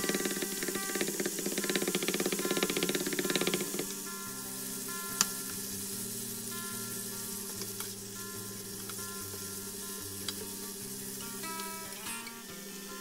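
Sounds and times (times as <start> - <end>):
meat sizzling in a frying pan: 0.0 - 13.0
soft background music: 0.0 - 13.0.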